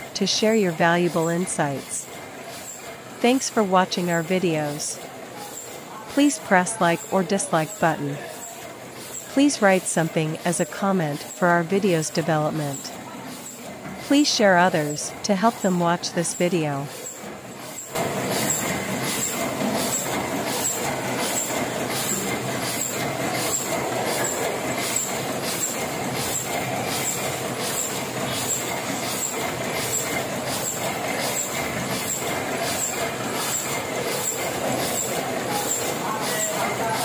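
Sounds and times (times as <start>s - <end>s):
printing press clatter: 0.2s - 37.0s.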